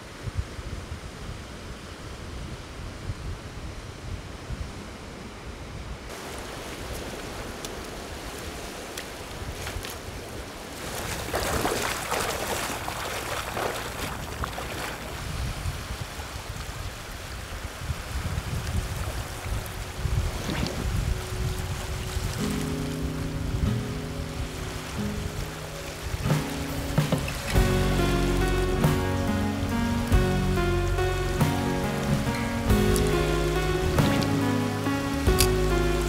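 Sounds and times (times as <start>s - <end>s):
wind buffeting microphone: 5.7s - 34.6s
sea surf on rocky shore: 6.1s - 36.0s.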